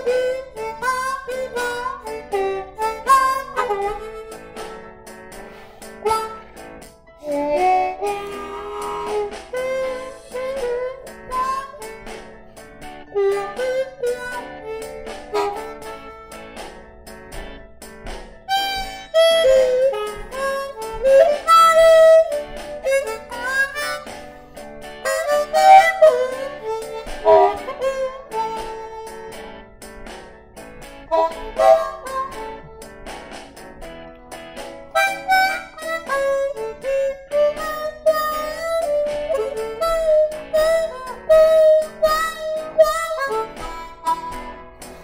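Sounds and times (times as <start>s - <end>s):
blues harmonica melody: 0.0s - 45.0s.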